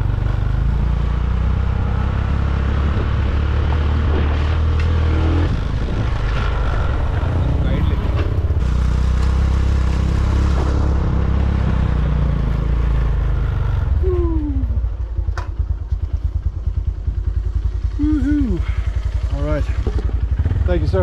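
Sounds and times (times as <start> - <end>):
dirt bike engine: 0.0 - 21.0.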